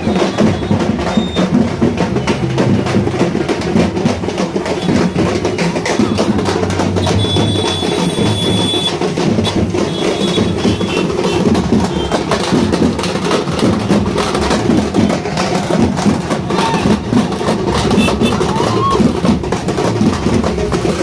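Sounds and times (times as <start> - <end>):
frame drums beaten with sticks: 0.0 - 21.0.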